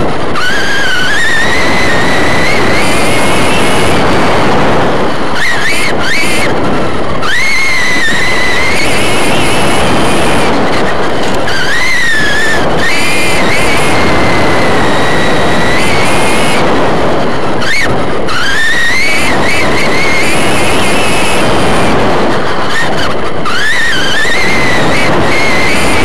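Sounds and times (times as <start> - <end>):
electric motor whine: 0.0 - 26.0
rush of tyres on dirt: 0.0 - 26.0.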